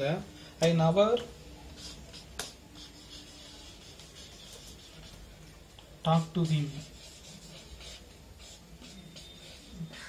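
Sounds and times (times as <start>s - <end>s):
marker pen scratching on paper: 1.6s - 10.0s.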